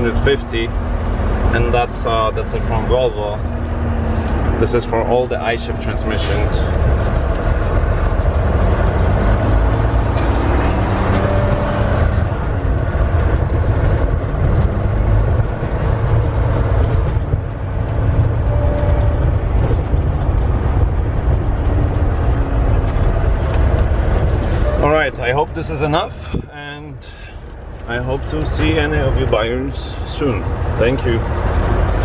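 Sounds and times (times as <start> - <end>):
truck diesel engine droning: 0.0 - 32.0.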